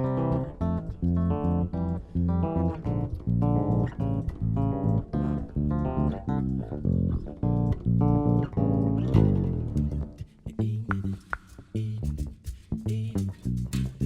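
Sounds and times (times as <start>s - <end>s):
bass guitar plucked notes: 0.0s - 14.0s.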